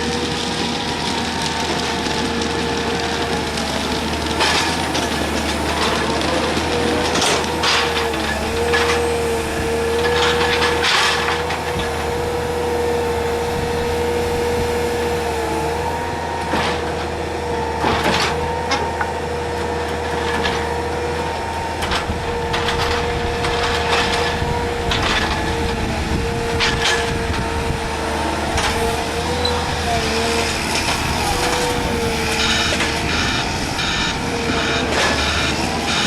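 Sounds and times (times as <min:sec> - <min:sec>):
concrete sleepers clanking: 0:00.0 - 0:14.7, 0:15.3 - 0:36.0
excavator hydraulic whine: 0:00.0 - 0:36.0.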